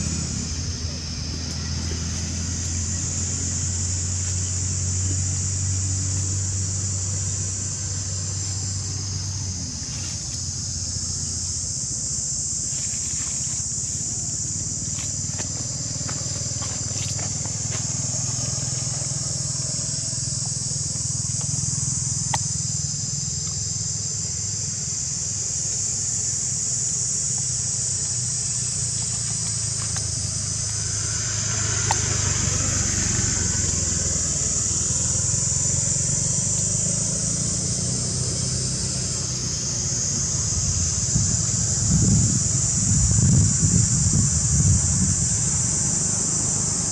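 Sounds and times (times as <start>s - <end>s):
high-pitched hiss: 0.0s - 46.9s.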